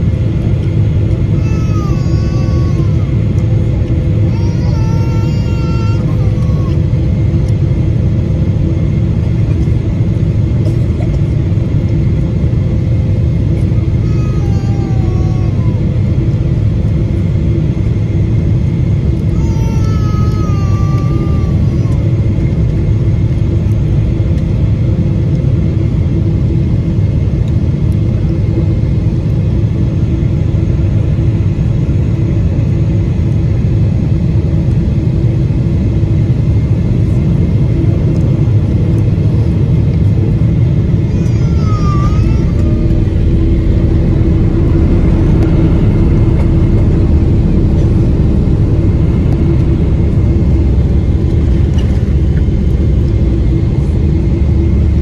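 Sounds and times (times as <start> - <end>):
jet engine and airflow rumble: 0.0 - 55.0
steady cabin hum: 0.0 - 55.0.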